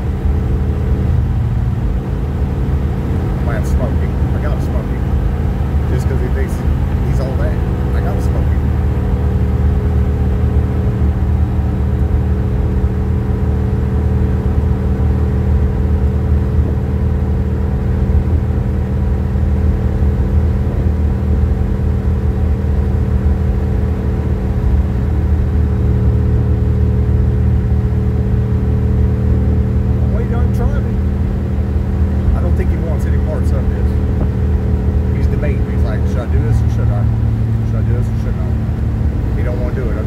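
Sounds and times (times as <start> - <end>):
car engine humming: 0.0 - 40.0
road noise: 0.0 - 40.0.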